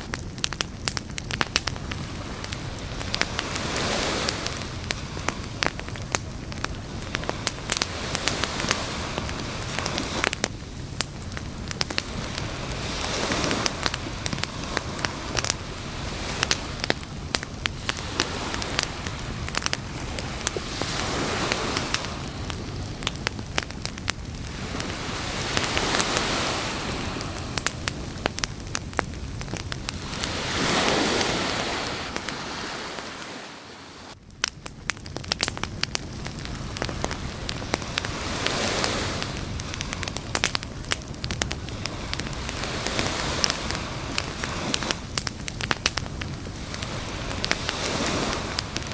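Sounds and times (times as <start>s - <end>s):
waves washing onto shore: 0.0s - 34.2s, 35.1s - 48.9s
campfire crackling and popping: 0.0s - 48.9s.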